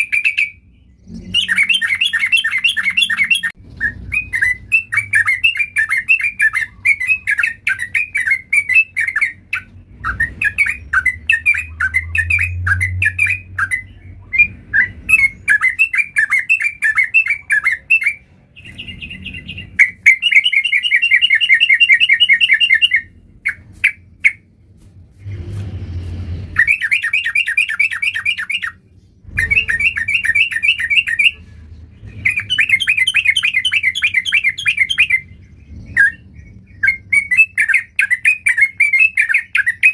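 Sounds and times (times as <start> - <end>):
bulbul singing: 0.0 - 24.5, 26.5 - 39.9.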